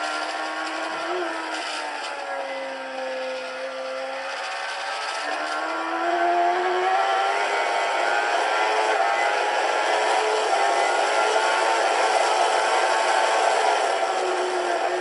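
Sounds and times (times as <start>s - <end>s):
racing motorcycle engine revving: 0.0s - 15.0s.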